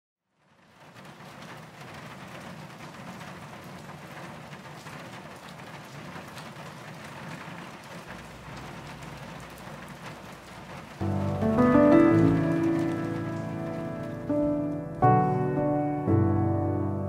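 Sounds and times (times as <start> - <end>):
steady rain patter: 0.2 - 17.0.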